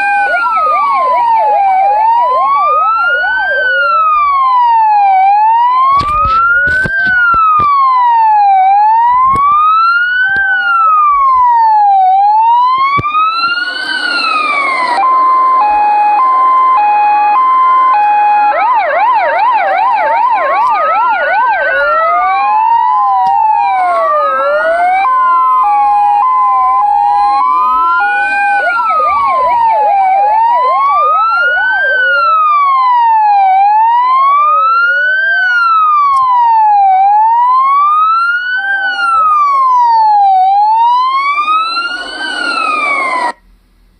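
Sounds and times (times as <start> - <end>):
police car siren: 0.0 - 43.5.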